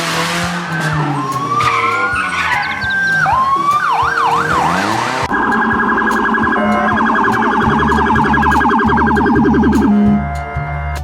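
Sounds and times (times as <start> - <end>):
low steady beat: 0.0 - 11.0
electronic police siren: 0.7 - 10.3.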